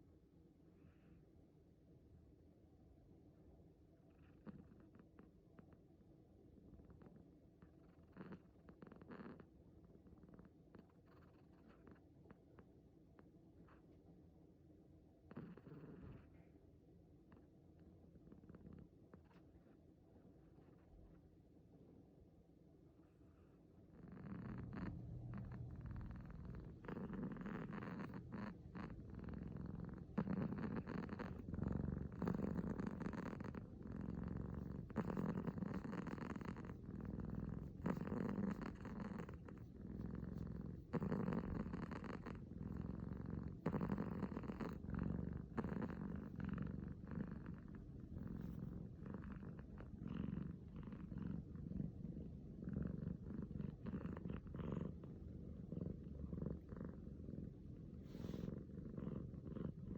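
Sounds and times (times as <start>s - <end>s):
kitten purring: 3.8s - 14.0s, 15.2s - 16.6s, 17.2s - 21.5s, 23.0s - 59.9s.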